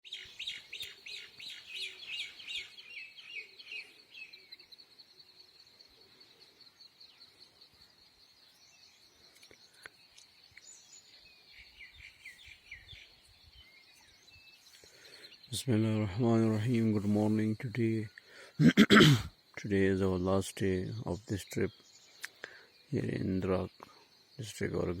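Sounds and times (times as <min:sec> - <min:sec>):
birds chirping in trilling runs: 0:00.0 - 0:25.0.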